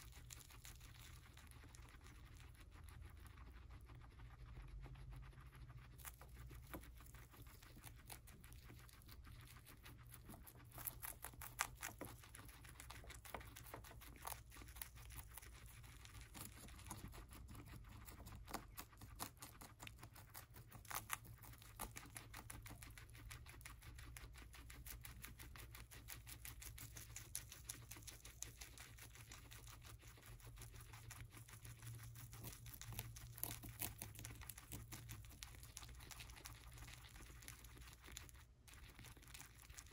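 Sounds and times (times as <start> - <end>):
guinea pigs chewing celery: 0.0 - 39.9.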